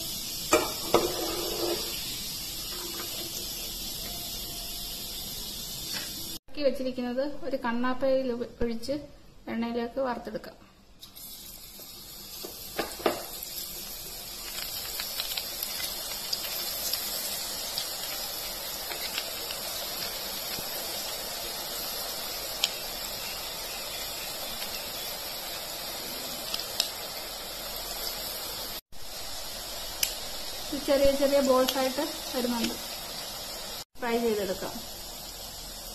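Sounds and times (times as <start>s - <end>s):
batter sizzling in hot oil: 0.0s - 6.4s, 11.0s - 35.9s.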